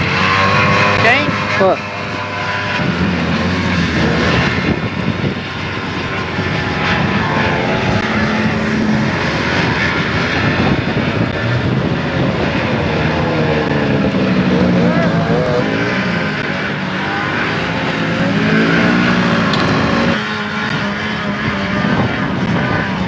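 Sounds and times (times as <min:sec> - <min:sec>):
snowmobile engines revving: 0:00.0 - 0:23.0.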